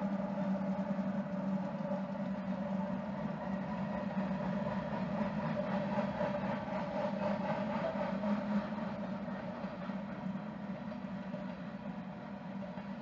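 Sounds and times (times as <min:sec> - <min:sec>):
diesel locomotives running: 0:00.0 - 0:13.0.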